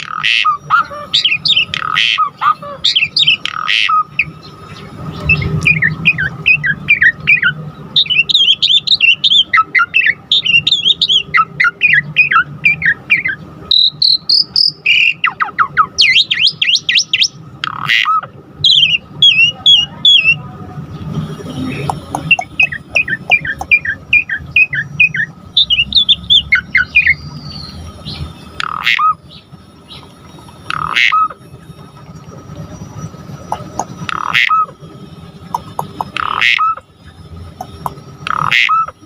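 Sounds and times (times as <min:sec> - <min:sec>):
starling singing: 0:00.0 - 0:32.0, 0:32.6 - 0:39.0.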